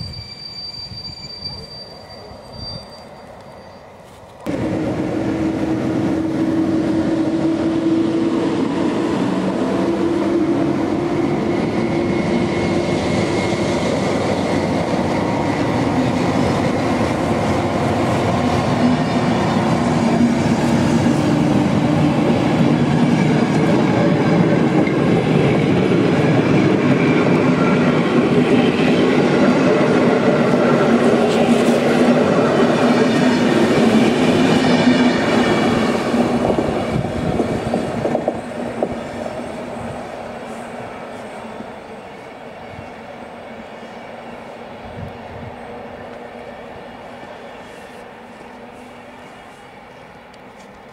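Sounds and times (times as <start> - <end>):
locomotive humming tone: 0.0 - 50.9
train wheels rumbling on rails: 0.0 - 50.9.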